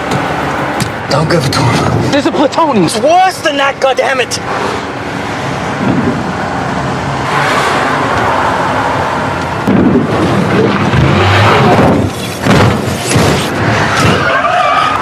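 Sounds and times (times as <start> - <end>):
car engines running: 0.0 - 15.0.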